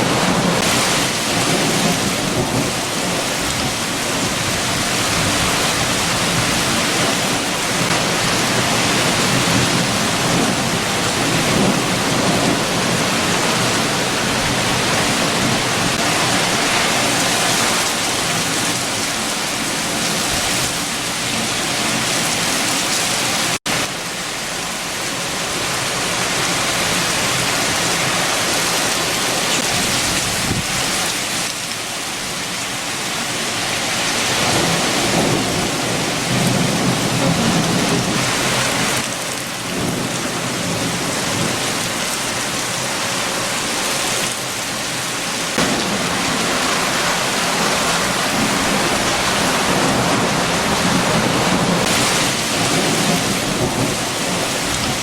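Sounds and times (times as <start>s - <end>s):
heavy rain: 0.0s - 55.0s
strong wind: 0.0s - 55.0s.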